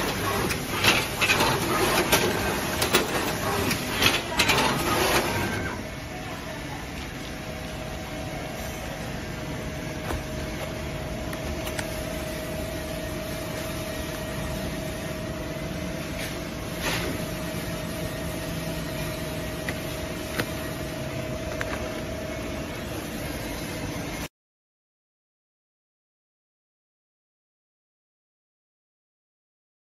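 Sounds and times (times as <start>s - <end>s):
wrapping machine humming: 0.0s - 24.3s.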